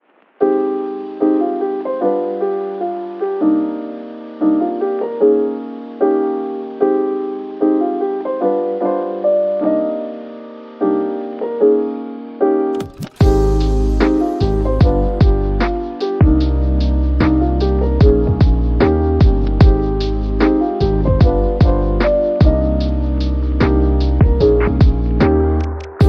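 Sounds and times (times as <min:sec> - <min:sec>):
gentle piano chords: 0:00.4 - 0:26.0.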